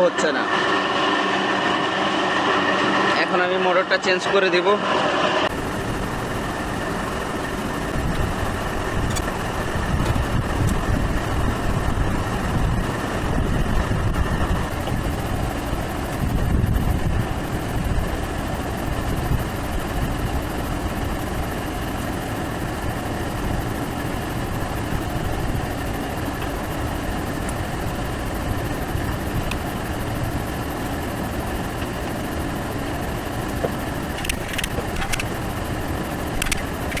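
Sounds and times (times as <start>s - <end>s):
machine rumbling: 5.5s - 37.0s.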